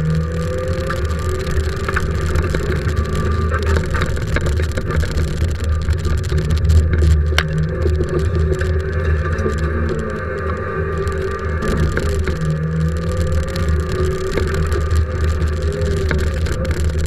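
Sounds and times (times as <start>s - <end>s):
car engine running hard: 0.0s - 17.0s
road and tyre noise: 0.0s - 17.0s.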